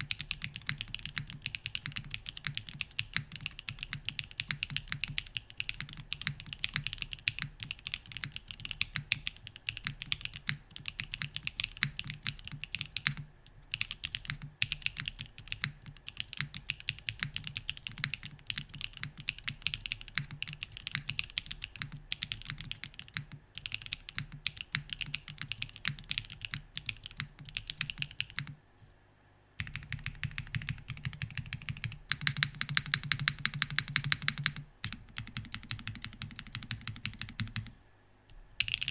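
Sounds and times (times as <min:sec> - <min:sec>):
mechanical keyboard typing: 0:00.0 - 0:28.6, 0:29.6 - 0:37.8, 0:38.6 - 0:38.9.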